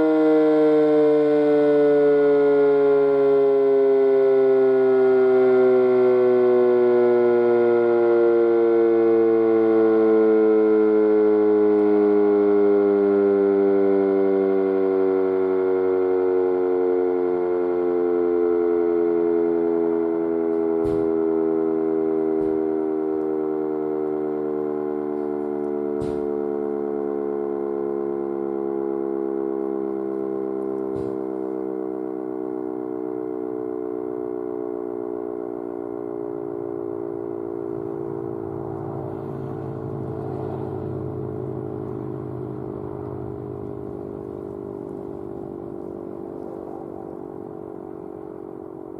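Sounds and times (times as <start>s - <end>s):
warning siren winding down: 0.0s - 48.9s.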